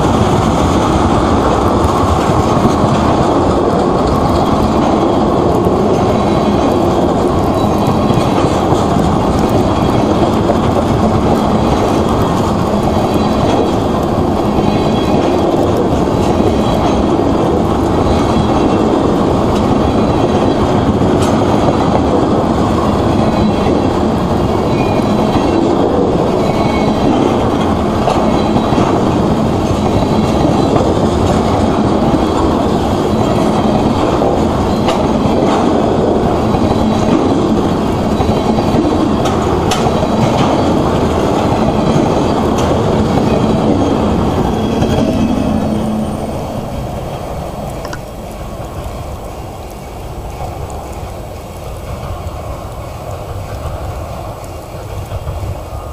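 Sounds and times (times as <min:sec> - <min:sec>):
steel wheels rumbling on rail: 0:00.0 - 0:55.9
wheels clicking over rail joints: 0:00.0 - 0:55.9.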